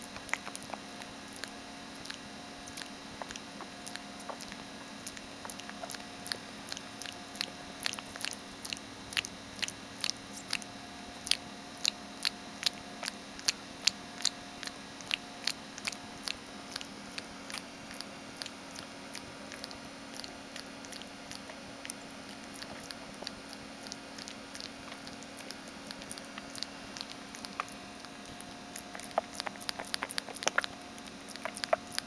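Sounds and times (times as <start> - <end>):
puppy mouth clicking: 0.0 - 32.0.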